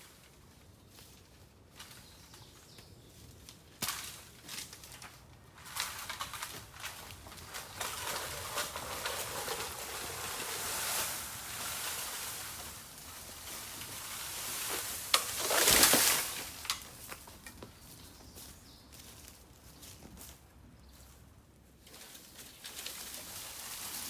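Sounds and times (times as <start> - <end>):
bamboo crackling and rustling: 0.0 - 24.0.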